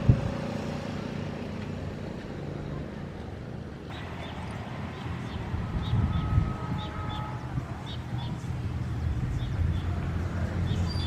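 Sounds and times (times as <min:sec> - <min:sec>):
diesel locomotive engine humming: 0:00.0 - 0:11.0.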